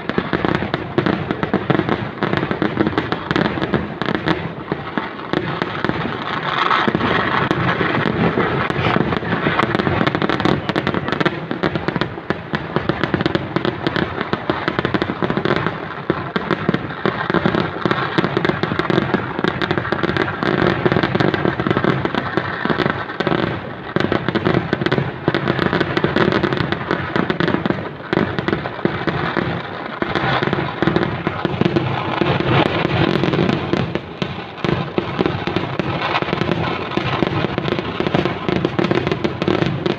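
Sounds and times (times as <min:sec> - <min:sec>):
firecracker barrage: 0:00.0 - 0:39.9.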